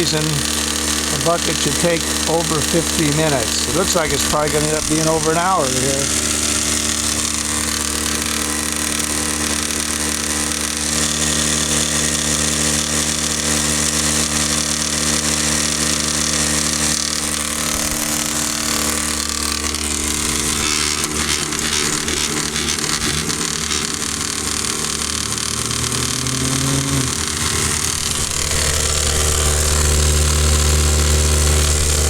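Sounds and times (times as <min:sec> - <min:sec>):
electric drywasher humming: 0:00.0 - 0:32.0.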